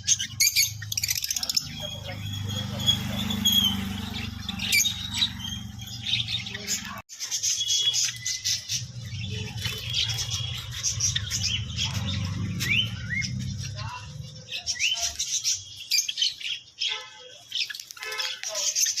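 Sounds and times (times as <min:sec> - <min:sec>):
cage birds chirping: 0:00.0 - 0:19.0.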